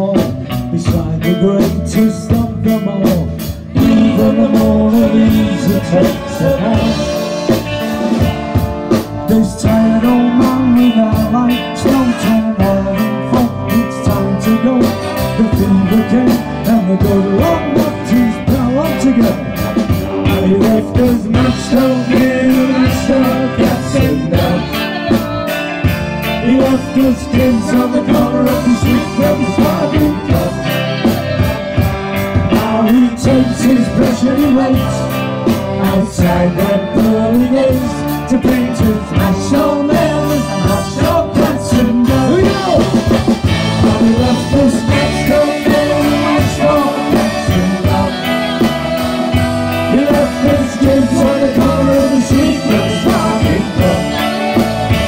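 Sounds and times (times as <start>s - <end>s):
drums with steady beat: 0.0s - 55.0s
electric bass: 0.0s - 55.0s
keyboards: 0.0s - 55.0s.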